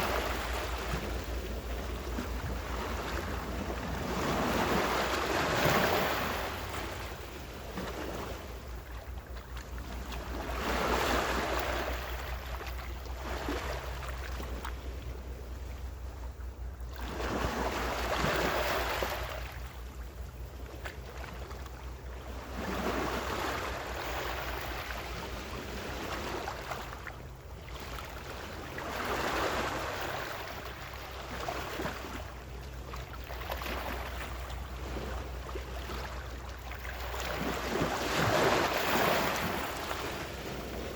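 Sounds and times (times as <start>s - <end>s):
ocean waves breaking on shore: 0.0s - 20.2s, 20.8s - 40.9s.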